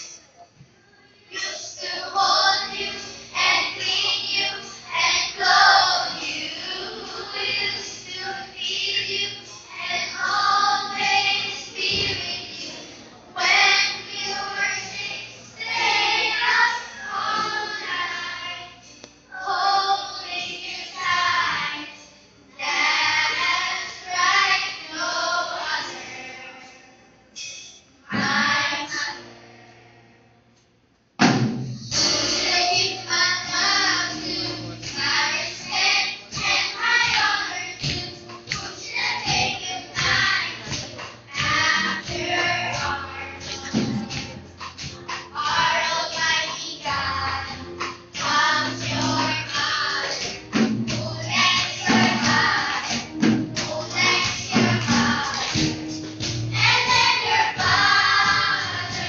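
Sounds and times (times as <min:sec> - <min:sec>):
children singing together: 0:01.3 - 0:27.1, 0:28.1 - 0:30.2, 0:31.8 - 0:59.0.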